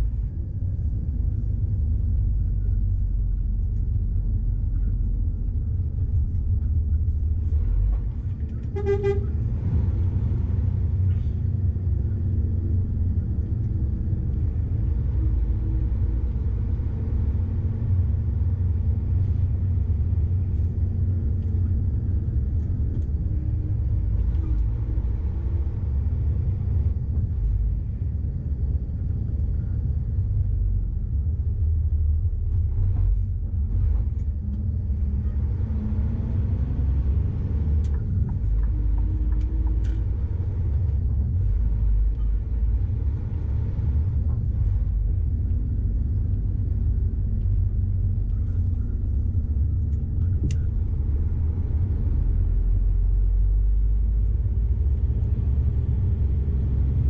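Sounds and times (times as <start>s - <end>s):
diesel truck engine rumble: 0.0s - 57.0s
road noise: 0.0s - 57.0s.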